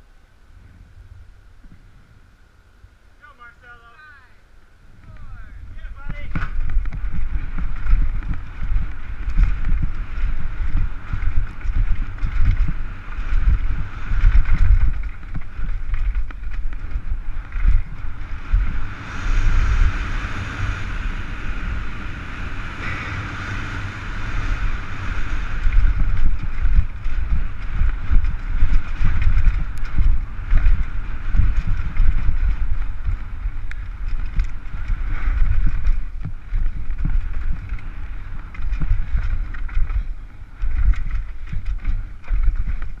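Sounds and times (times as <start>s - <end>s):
bike rattling and rumbling: 0.0s - 3.3s, 4.4s - 43.0s
wind buffeting microphone: 0.0s - 43.0s
bike jolting over bumps: 5.6s - 43.0s.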